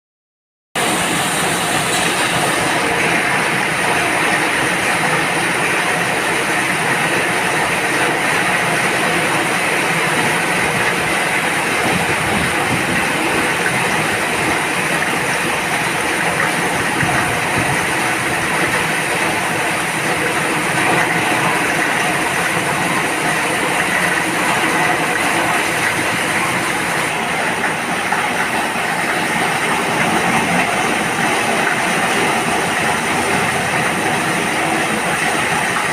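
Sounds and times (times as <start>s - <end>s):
rain falling steadily: 0.8s - 35.9s.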